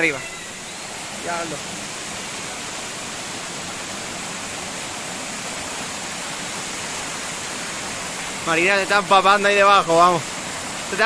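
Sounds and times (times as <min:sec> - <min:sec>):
waterfall pouring and splashing: 0:00.0 - 0:11.0.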